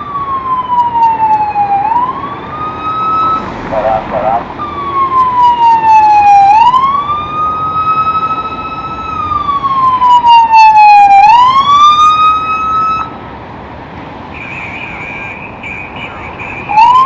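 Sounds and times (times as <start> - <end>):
emergency siren wailing: 0.0 - 13.2, 15.6 - 17.0.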